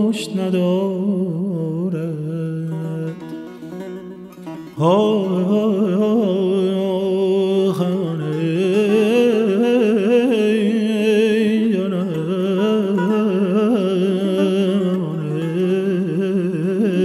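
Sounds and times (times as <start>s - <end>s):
man singing wordless melody: 0.0s - 17.0s.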